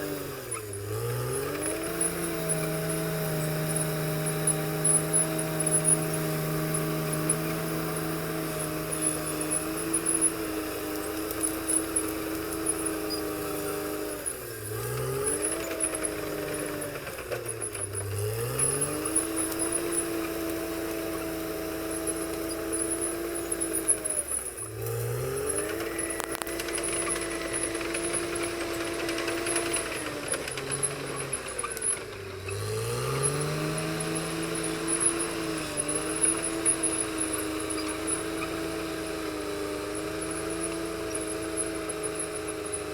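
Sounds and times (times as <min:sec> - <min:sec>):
bulldozer diesel engine under load: 0:00.0 - 0:42.9.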